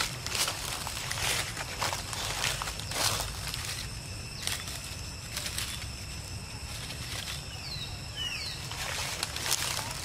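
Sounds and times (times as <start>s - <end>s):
dry leaves rustling and crackling: 0.0s - 10.0s
steady low rumble: 0.0s - 10.0s.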